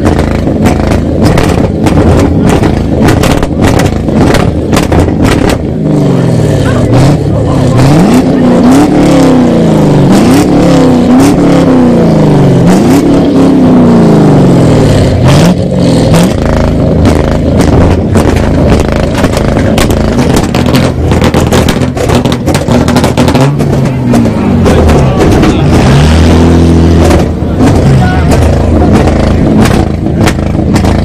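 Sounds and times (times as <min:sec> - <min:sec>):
car engine revving: 0:00.0 - 0:31.0
exhaust crackles: 0:00.0 - 0:31.0.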